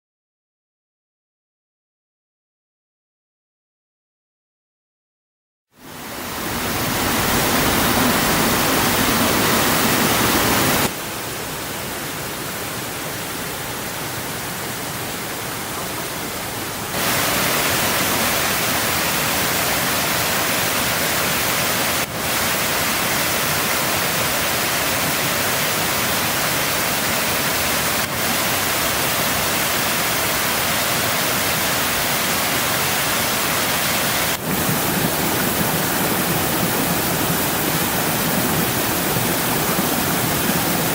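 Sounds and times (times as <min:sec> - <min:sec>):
waterfall rushing: 0:05.8 - 0:40.9.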